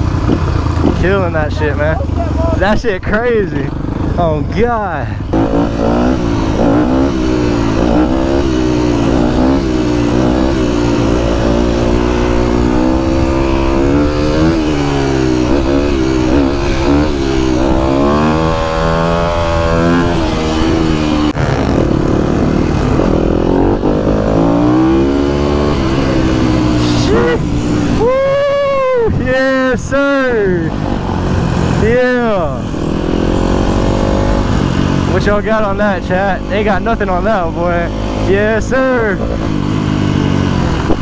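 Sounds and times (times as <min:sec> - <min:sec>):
motorbike engines revving: 0:00.0 - 0:41.0.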